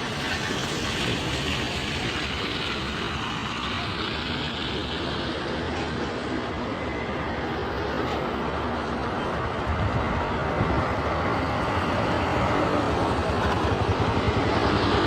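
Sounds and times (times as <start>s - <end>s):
vehicle engine and tyre noise: 0.0s - 15.0s.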